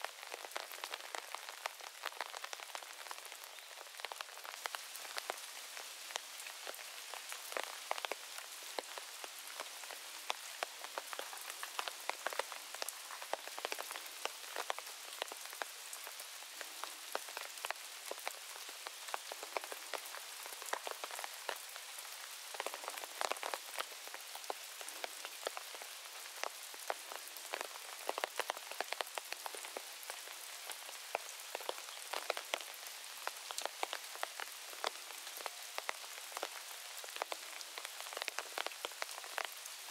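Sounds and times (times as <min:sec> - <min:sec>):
raindrops ticking: 0:00.0 - 0:05.4, 0:06.0 - 0:39.8
steady rain hiss: 0:00.0 - 0:39.9.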